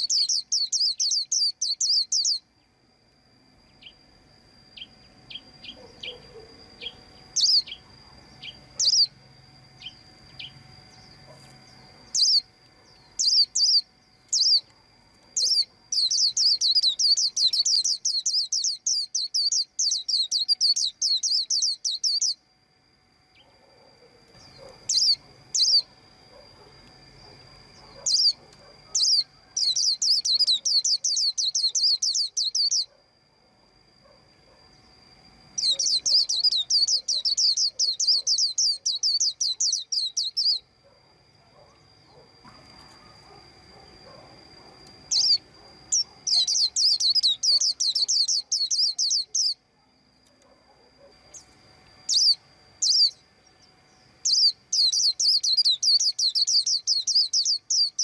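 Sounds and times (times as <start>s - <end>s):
bird chirping: 0.0s - 2.8s, 4.8s - 9.2s, 9.8s - 14.7s, 15.3s - 22.4s, 23.3s - 33.0s, 35.5s - 40.7s, 41.6s - 49.6s, 51.0s - 58.0s.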